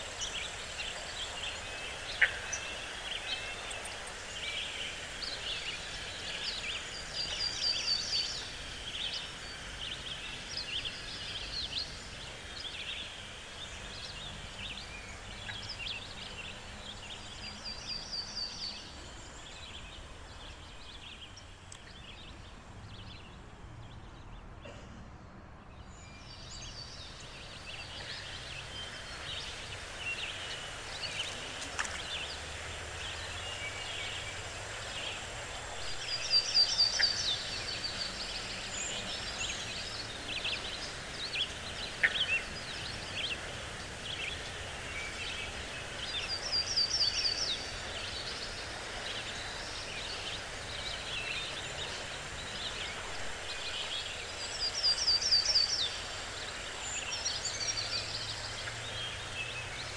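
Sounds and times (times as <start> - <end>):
light background hiss: 0.0 - 23.9, 25.7 - 59.9
forest birds chirping: 0.0 - 59.9.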